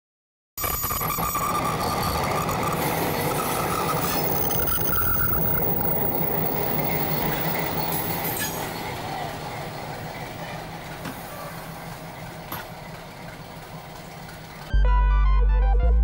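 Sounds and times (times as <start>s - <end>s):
diesel locomotive engine idling: 1.7s - 14.8s.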